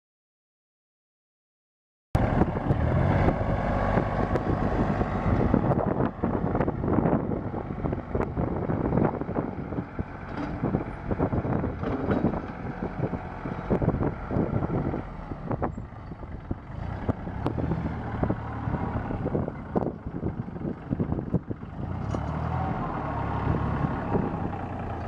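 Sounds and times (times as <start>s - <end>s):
diesel tractor engine running: 2.2s - 25.0s
wind buffeting microphone: 2.2s - 25.0s.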